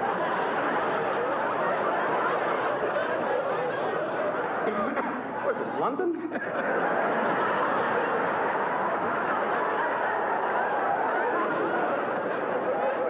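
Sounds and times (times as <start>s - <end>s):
audience laughing: 0.0s - 13.0s.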